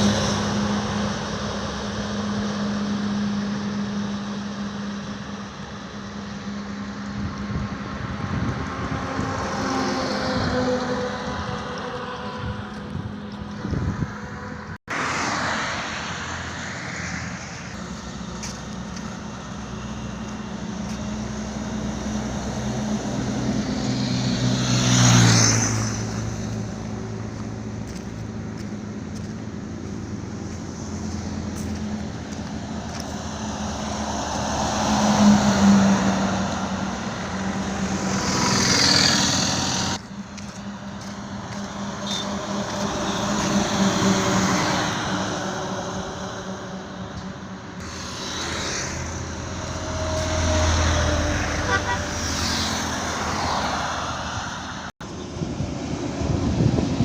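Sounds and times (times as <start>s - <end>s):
engine drone and road noise: 0.0s - 57.0s
vehicles passing loudly: 0.0s - 57.0s.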